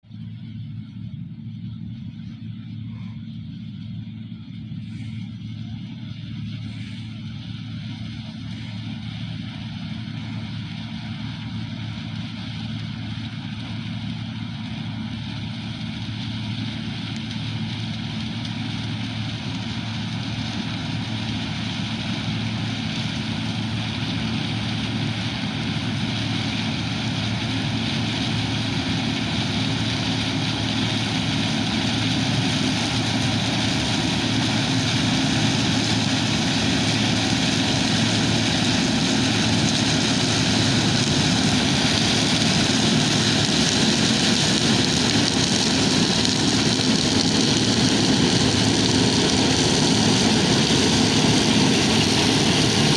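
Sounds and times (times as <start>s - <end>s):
combine harvester engine and threshing: 0.1s - 52.9s.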